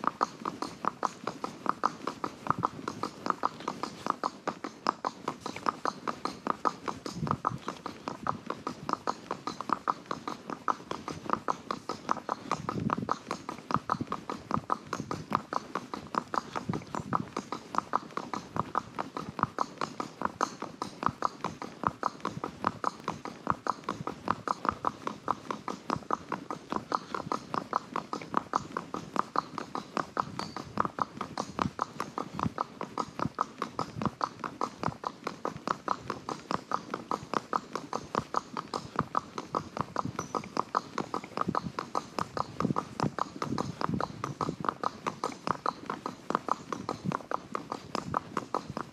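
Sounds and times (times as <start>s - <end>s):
horse hooves clip-clopping: 0.0s - 48.9s.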